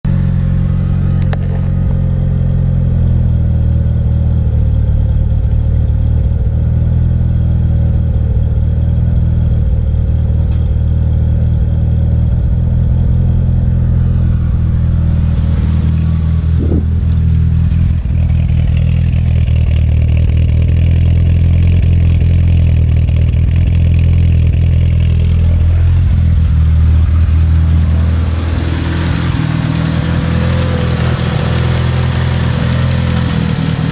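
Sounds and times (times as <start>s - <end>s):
car engine idling with misfire: 0.0s - 33.9s.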